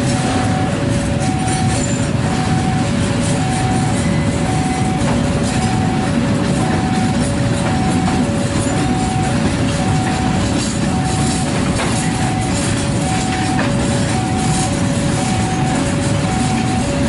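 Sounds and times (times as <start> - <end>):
freight train wheels rumbling: 0.0 - 17.0
two-tone electronic warning signal: 0.0 - 17.0.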